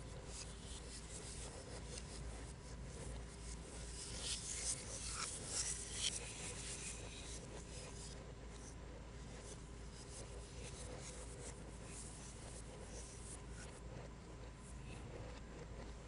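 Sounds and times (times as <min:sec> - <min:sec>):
stylus scratching on tablet screen: 0:00.0 - 0:16.0.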